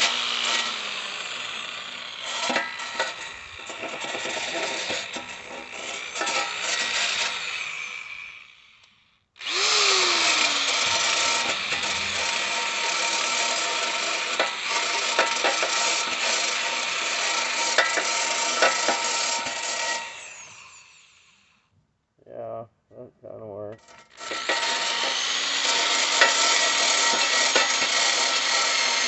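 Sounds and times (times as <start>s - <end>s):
power wire brush scrubbing metal: 0.0s - 8.3s, 9.4s - 21.1s, 23.8s - 29.0s.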